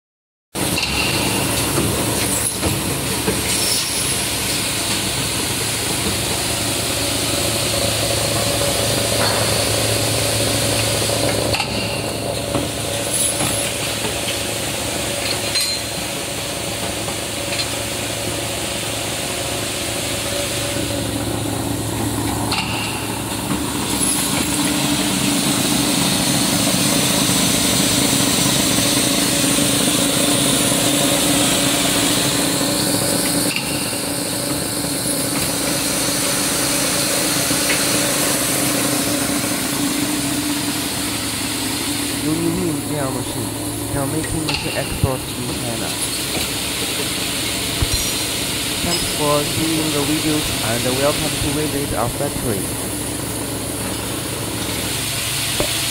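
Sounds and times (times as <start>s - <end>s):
machine humming with hiss: 0.6s - 55.9s.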